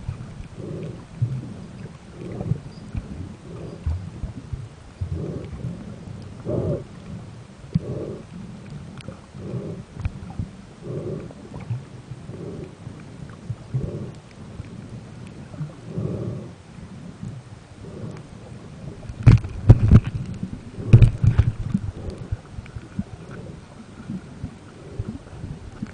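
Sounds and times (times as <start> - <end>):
low underwater rumbling pulses: 0.0 - 25.9.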